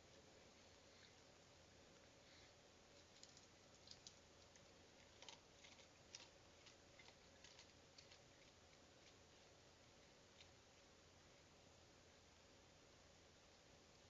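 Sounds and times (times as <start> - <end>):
low hiss and hum: 0.0 - 14.0.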